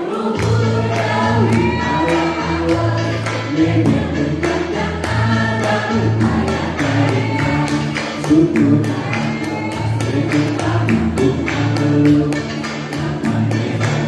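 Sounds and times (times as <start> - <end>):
mixed choir singing: 0.0 - 14.0
music with bass and beat: 0.4 - 14.0.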